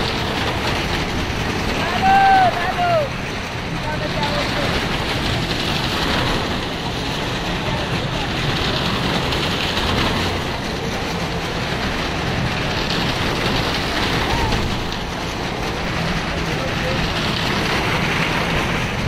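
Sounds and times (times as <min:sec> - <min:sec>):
car engines running: 0:00.0 - 0:19.0
tyres rumbling over wooden planks: 0:00.0 - 0:19.0.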